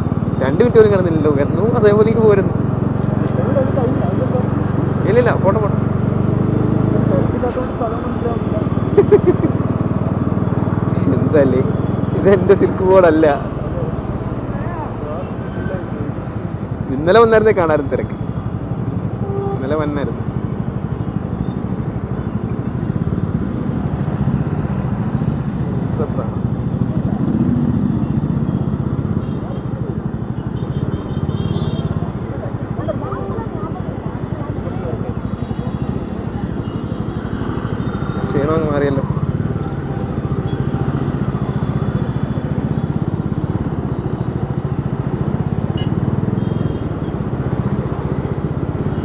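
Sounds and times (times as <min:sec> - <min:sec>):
motorcycle engine rumbling: 0:00.0 - 0:49.0.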